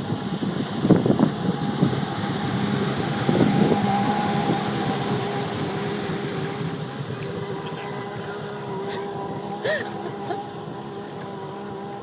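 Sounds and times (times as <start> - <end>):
jet ski engine running: 0.0 - 12.0
wind buffeting microphone: 0.0 - 12.0.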